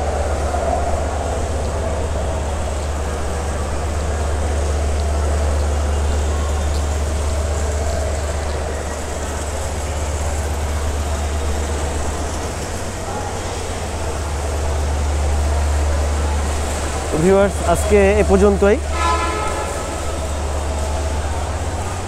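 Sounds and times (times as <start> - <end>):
murmur of people: 0.0 - 22.0.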